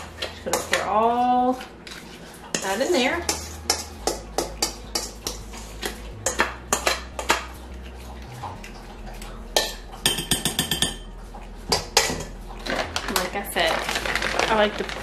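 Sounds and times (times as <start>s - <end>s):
spoon scraping metal bowl: 0.0s - 14.5s.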